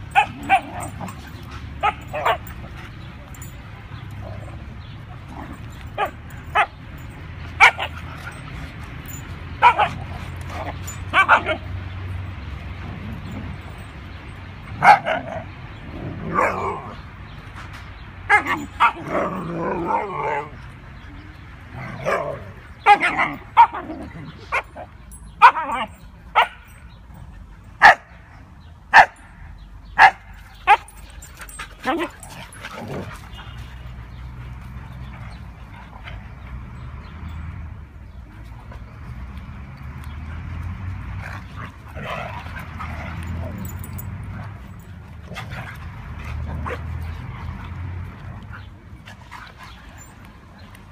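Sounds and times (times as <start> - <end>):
dogs barking and yipping: 0.0 - 50.9.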